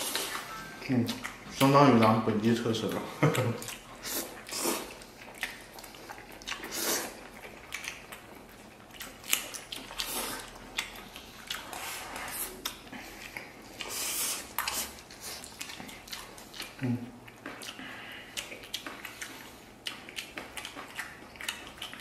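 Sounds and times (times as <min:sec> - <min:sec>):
chewing: 0:02.8 - 0:22.0.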